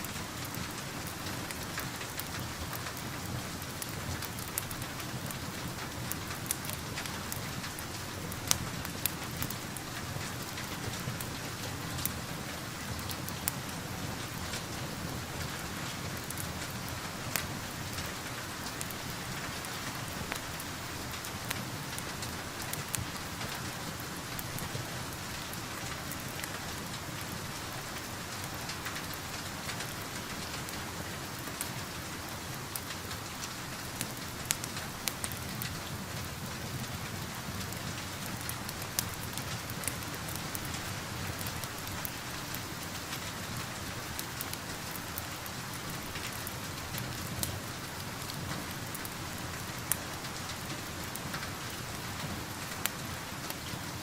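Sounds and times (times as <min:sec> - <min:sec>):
crackling wood fire: 0:00.0 - 0:54.0
steady rain pattering: 0:00.0 - 0:54.0.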